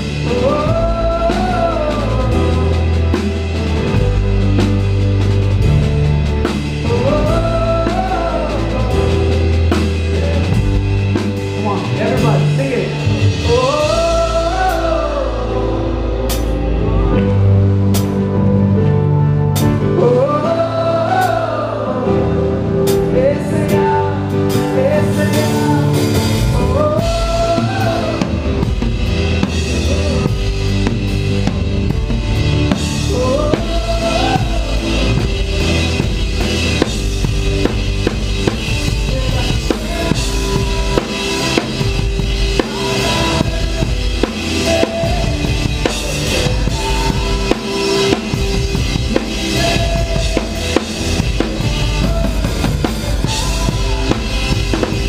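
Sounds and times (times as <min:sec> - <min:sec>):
gliding lead melody: 0:00.0 - 0:55.0
live band playing worship song: 0:00.0 - 0:55.0.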